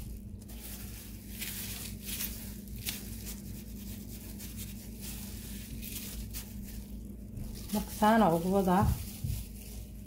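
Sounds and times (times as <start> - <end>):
breadcrumbs rustling and crunching: 0.0 - 10.0.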